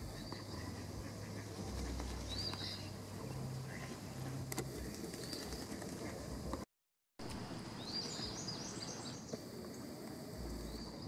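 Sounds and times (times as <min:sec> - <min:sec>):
songbirds chirping: 0:00.0 - 0:06.6, 0:07.2 - 0:11.0.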